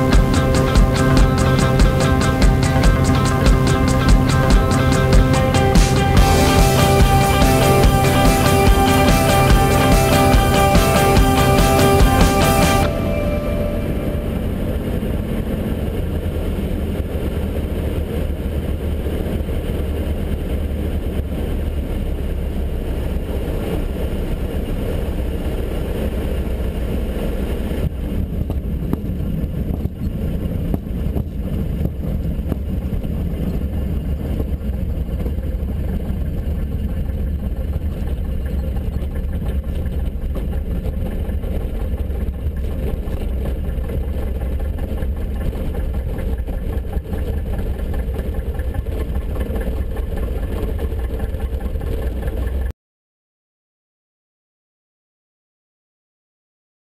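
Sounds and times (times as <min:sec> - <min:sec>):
aircraft engine and propeller droning: 0:00.0 - 0:27.9, 0:32.0 - 0:52.7.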